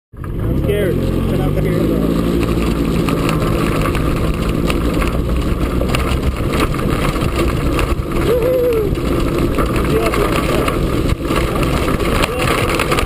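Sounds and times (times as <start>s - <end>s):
cart frame rattling: 0.2s - 13.0s
golf cart motor running: 0.2s - 13.0s.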